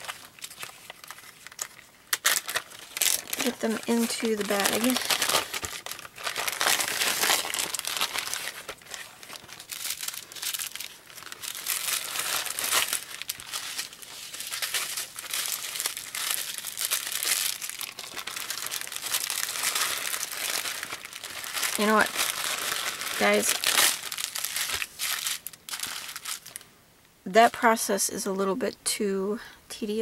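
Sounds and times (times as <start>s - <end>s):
plastic packets crinkling: 0.0s - 26.7s.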